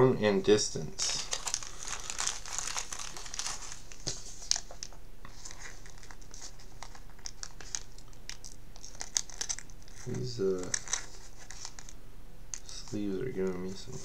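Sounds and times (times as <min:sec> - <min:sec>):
plastic sleeve crinkling: 0:01.0 - 0:14.0.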